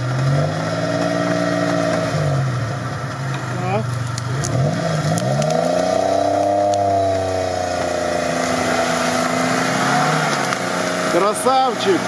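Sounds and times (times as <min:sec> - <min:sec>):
car engine revving hard: 0:00.0 - 0:03.0, 0:04.2 - 0:12.0.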